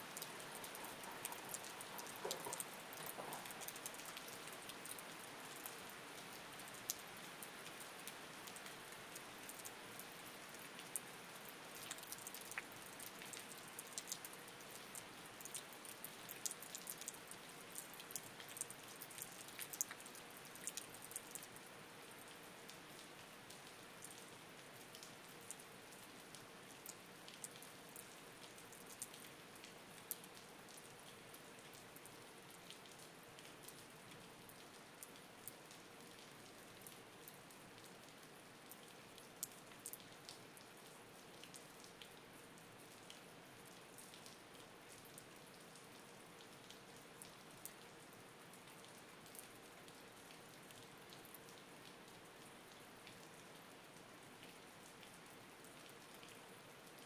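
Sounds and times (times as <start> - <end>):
light rain hiss: 0.0 - 57.0
raindrops striking close by: 0.0 - 57.0.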